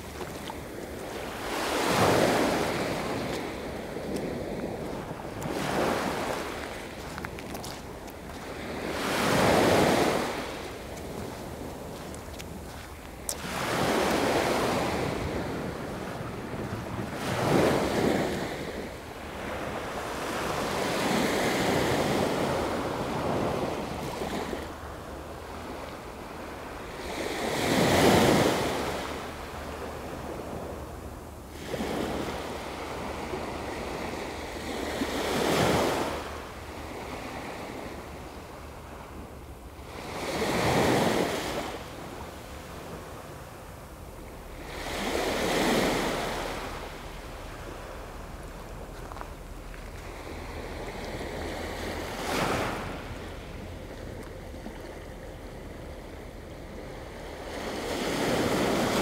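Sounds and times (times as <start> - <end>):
small waves breaking on beach: 0.0 - 30.8, 31.4 - 59.0.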